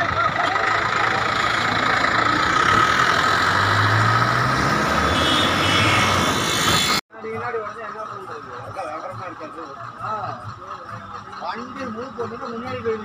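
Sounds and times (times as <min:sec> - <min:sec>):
truck passing: 0:00.0 - 0:13.0
vehicle engine and road noise: 0:00.0 - 0:13.0.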